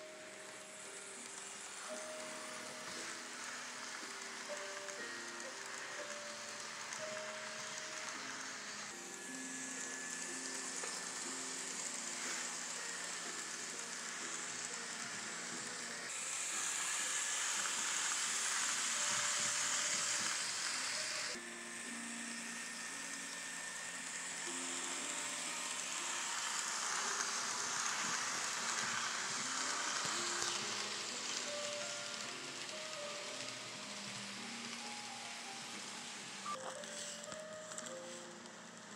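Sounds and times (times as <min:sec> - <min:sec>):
quiet background music: 0:00.0 - 0:38.9
steady hiss: 0:00.0 - 0:38.9.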